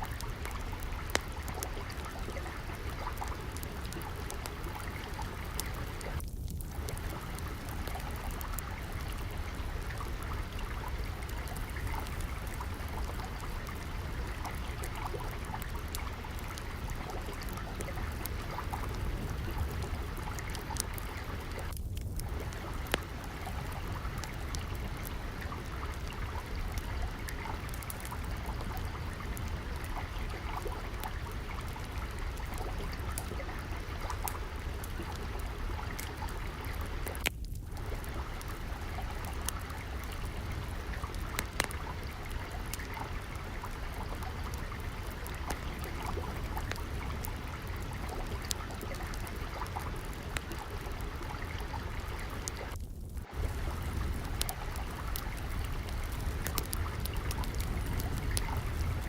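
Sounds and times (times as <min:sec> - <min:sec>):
trickling water: 0:00.0 - 0:59.0
wood fire crackling and popping: 0:00.0 - 0:59.0.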